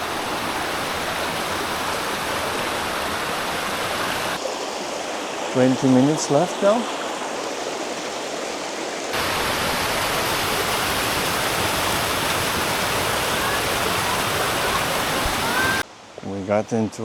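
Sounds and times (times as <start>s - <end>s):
creek waterfalls rushing: 0.0s - 17.0s.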